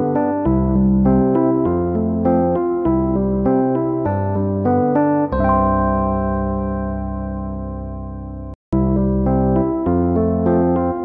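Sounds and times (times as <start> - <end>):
keyboard music: 0.0 - 11.0.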